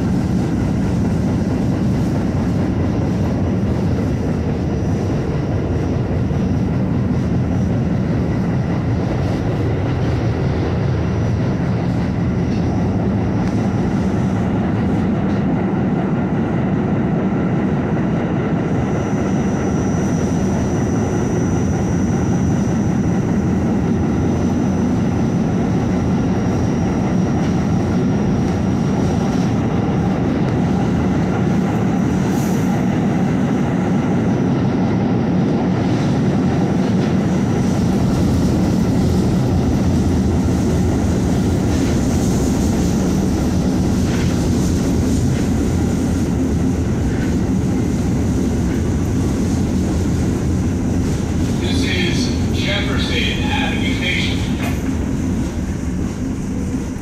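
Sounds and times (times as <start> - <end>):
subway car wheels rumbling on rail: 0.0 - 57.0.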